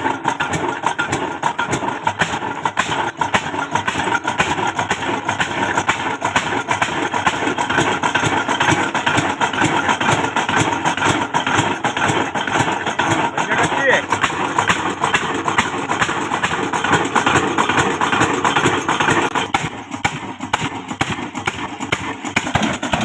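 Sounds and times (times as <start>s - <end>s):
diesel engine knocking: 0.0s - 23.0s.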